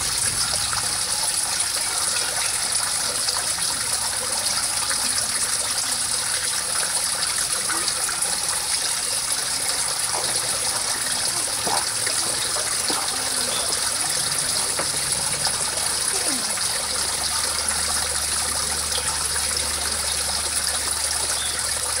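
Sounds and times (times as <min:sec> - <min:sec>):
water trickling over a step: 0:00.0 - 0:22.0.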